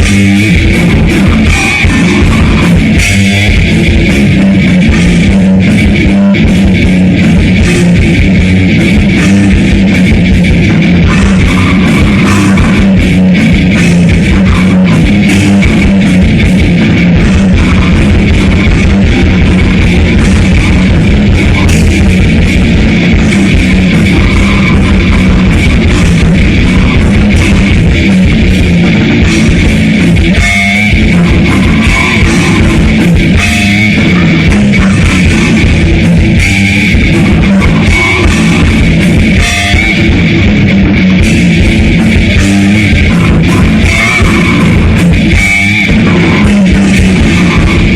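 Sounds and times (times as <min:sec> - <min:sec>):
distorted electric guitars: 0:00.0 - 0:47.9
fast drumming: 0:00.0 - 0:47.9.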